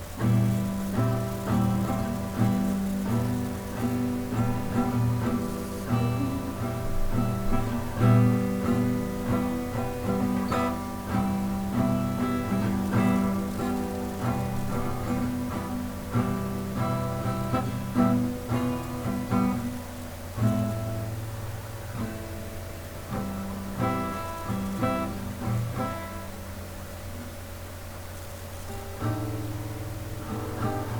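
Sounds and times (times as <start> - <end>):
acoustic guitar music: 0.0 - 30.9.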